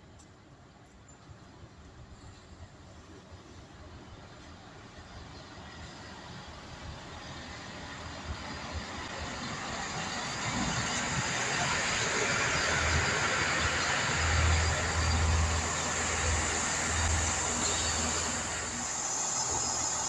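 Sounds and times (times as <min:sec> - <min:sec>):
train rumble and rush: 0:00.0 - 0:20.0.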